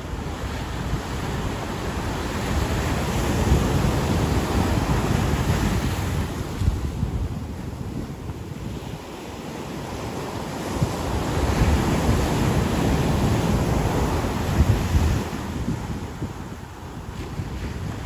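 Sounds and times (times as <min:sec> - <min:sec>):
ocean waves breaking on beach: 0:00.0 - 0:18.0
wind buffeting microphone: 0:00.0 - 0:18.0.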